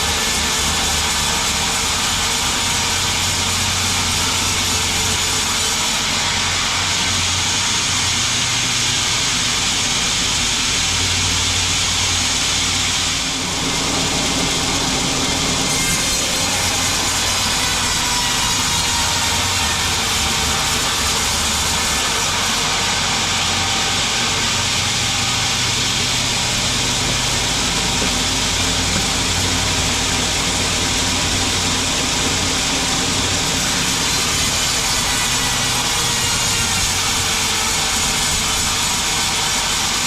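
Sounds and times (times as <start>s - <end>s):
sawmill saw cutting log: 0.0s - 40.0s.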